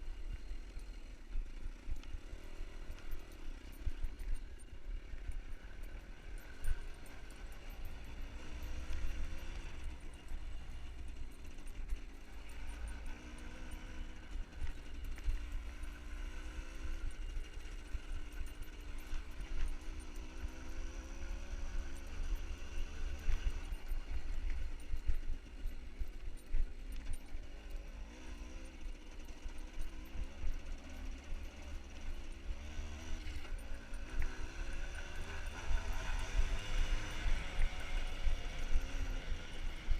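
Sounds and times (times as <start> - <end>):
motorbike engine revving: 1.6 - 39.9.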